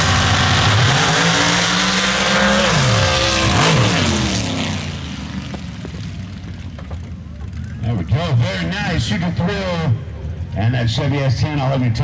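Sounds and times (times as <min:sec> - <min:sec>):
race truck engines at full throttle: 0:00.0 - 0:12.0.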